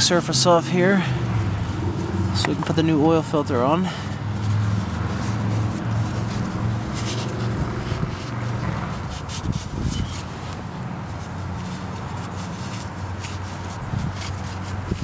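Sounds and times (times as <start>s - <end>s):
rag rubbing on metal: 0.0s - 3.4s, 4.2s - 15.0s.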